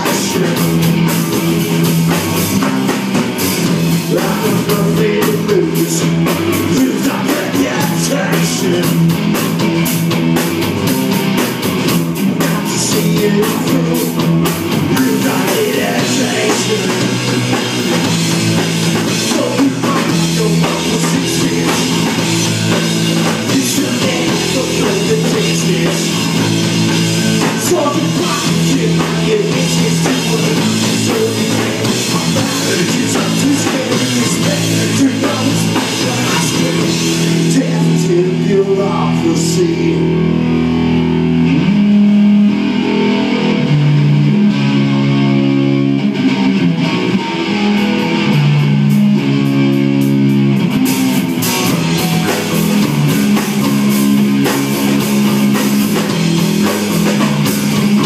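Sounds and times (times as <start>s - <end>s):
drum kit: 0.0s - 45.3s, 46.1s - 58.0s
guitars playing: 0.0s - 58.0s.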